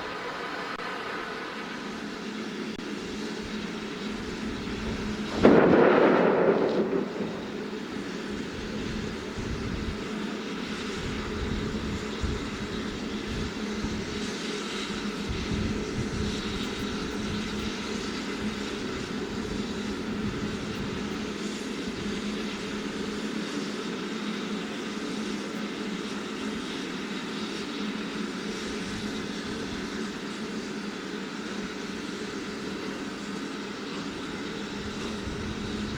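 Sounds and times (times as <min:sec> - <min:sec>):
steam locomotive rumble: 0:00.0 - 0:23.6, 0:24.2 - 0:35.9.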